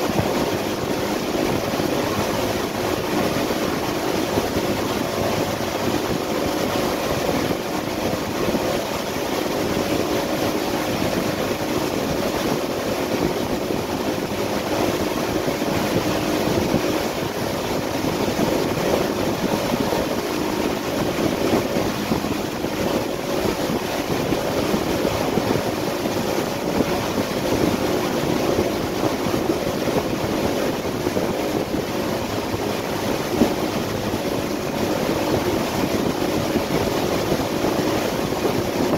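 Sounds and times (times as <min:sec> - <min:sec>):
boat engine hum: 0:00.0 - 0:38.9
churning wake wash: 0:00.0 - 0:38.9
wind on microphone: 0:00.0 - 0:38.9.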